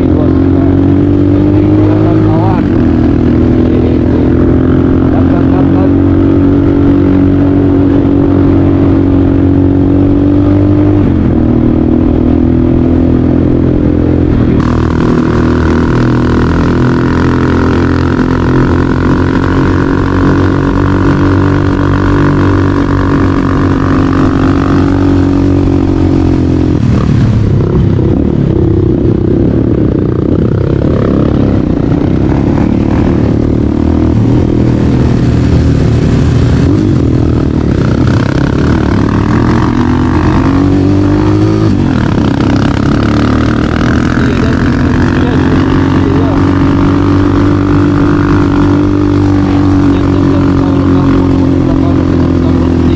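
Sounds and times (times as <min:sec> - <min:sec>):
high whine: 0:00.0 - 0:52.9
motorcycle engine running: 0:00.0 - 0:52.9.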